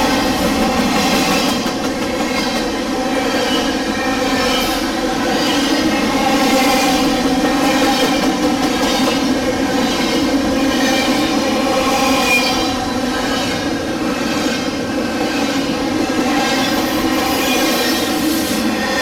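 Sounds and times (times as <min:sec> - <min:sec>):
train wheels rolling on track: 0:00.0 - 0:19.0.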